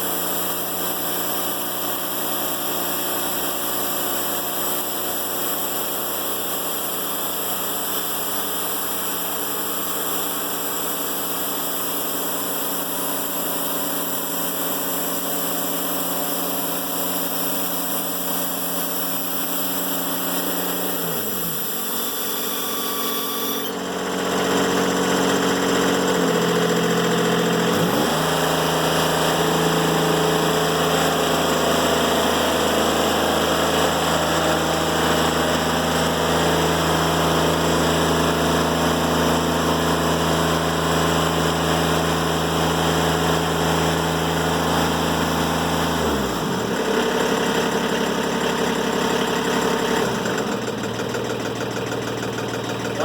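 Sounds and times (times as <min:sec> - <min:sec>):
band sawmill cutting log: 0:00.0 - 0:51.1.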